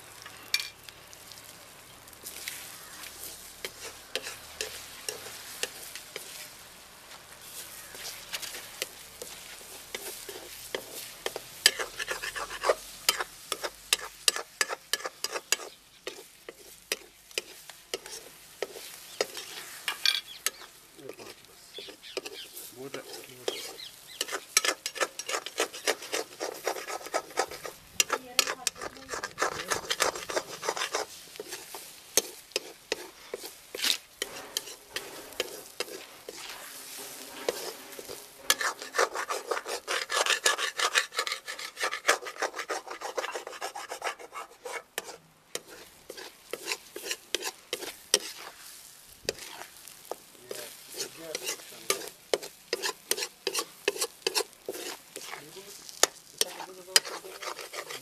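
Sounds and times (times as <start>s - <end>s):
frying sizzle: 0.0s - 58.0s
steel spatula scraping metal pan: 3.2s - 6.5s, 7.4s - 58.0s.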